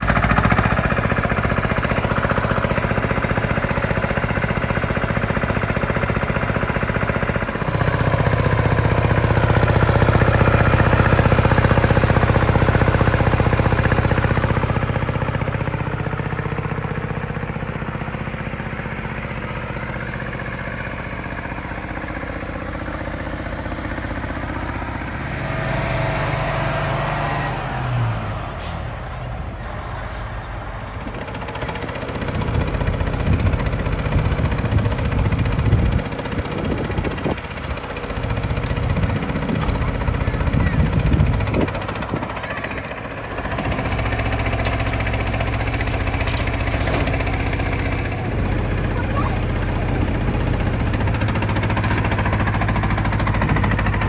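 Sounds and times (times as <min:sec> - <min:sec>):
diesel truck engine running rattly: 0:00.0 - 0:54.0.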